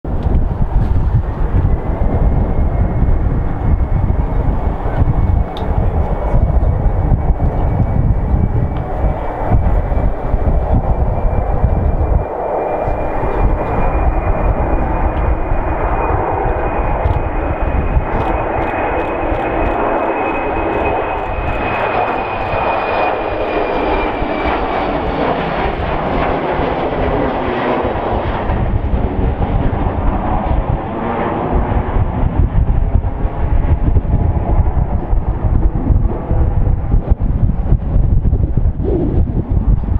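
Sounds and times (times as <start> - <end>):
deep rumble: 0.0 - 39.9
jet engine roar with fan whine: 0.1 - 39.9.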